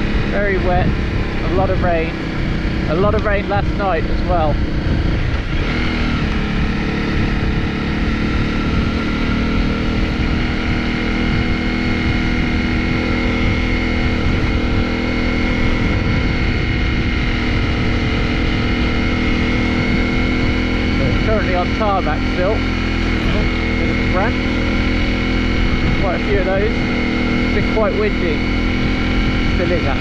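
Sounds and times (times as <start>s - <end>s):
motorcycle engine running: 0.0s - 30.0s
wind rumble on microphone: 0.0s - 30.0s.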